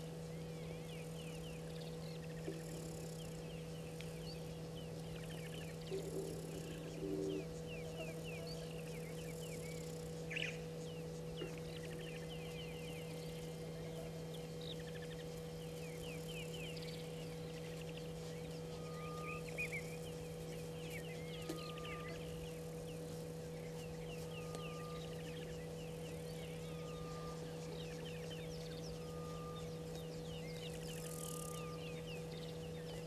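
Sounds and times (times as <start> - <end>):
steady low hum: 0.0 - 33.0
wild birds chirping and calling: 0.0 - 33.0.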